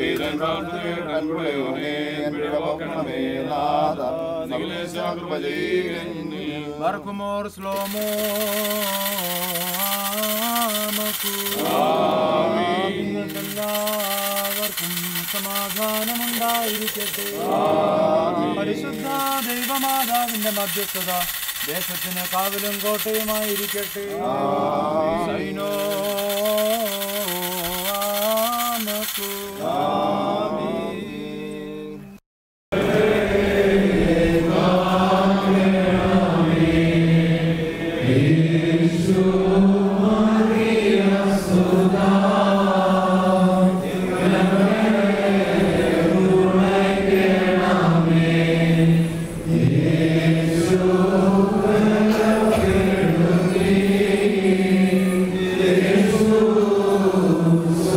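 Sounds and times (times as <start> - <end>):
male voices chanting in unison: 0.0 - 21.2, 22.0 - 32.0, 32.8 - 57.9.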